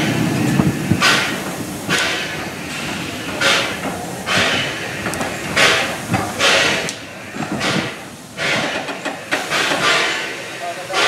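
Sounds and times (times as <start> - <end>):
steam locomotive chuffing slowly: 0.0 - 11.0.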